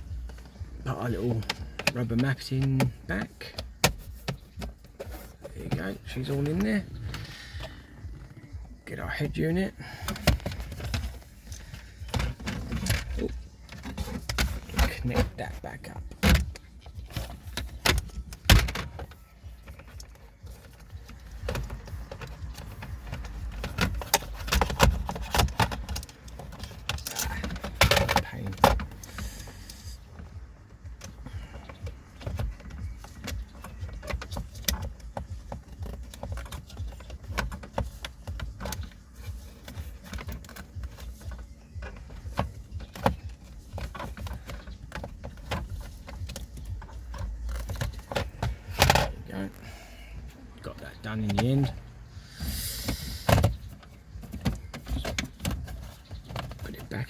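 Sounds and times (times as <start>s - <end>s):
plastic parts clicking and rattling: 0.2s - 8.8s, 9.7s - 49.6s, 50.2s - 57.0s.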